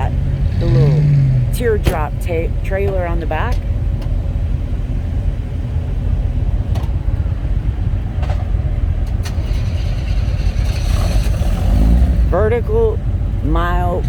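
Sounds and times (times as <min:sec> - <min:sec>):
cars driving slowly past: 0:00.0 - 0:14.0.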